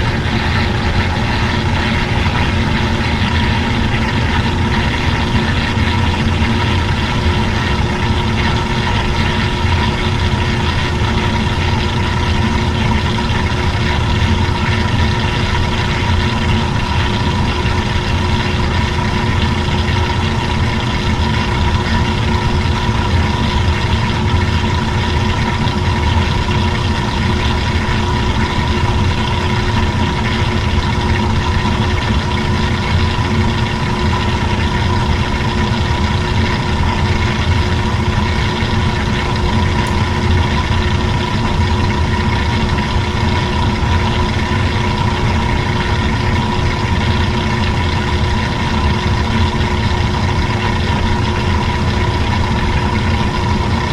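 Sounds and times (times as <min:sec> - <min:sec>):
washing machine motor humming: 0:00.0 - 0:53.9.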